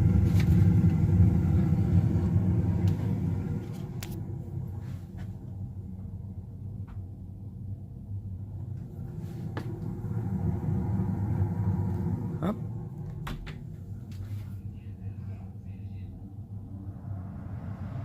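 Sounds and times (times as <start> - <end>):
gas furnace rumbling: 0.0 - 18.0.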